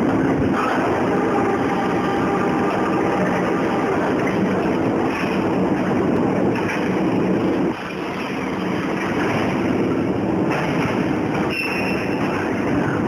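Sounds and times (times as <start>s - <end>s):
conveyor and motor noise: 0.0s - 13.0s.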